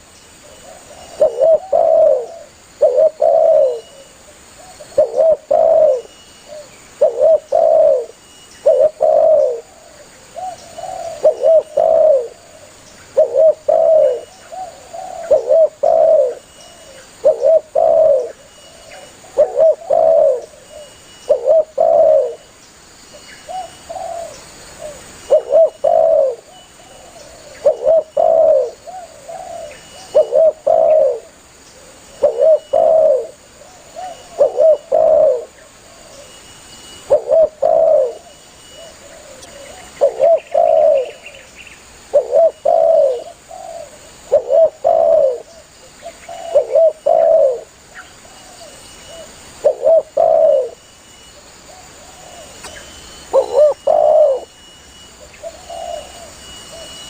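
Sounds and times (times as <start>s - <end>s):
dove cooing: 0.0s - 22.5s, 23.4s - 50.8s, 51.6s - 57.0s.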